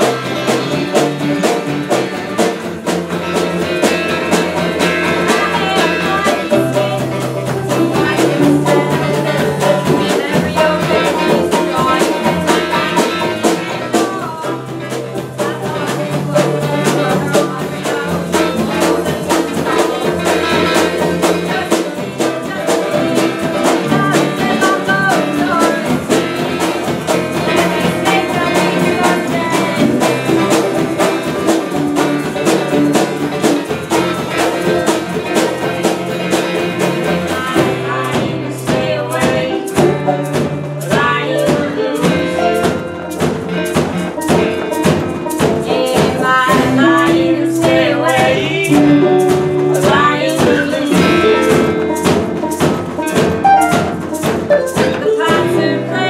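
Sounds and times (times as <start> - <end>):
banjo: 0.0 - 56.0
drum beat: 0.0 - 56.0
folk band playing: 0.0 - 56.0.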